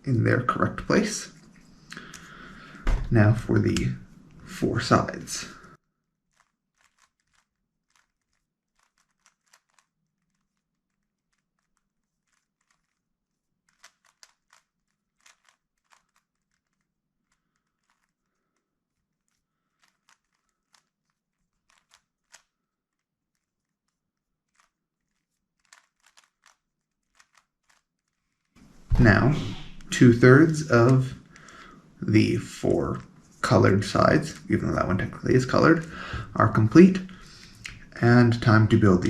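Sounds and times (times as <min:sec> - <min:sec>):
puzzle cube clicking: 0:06.3 - 0:38.8.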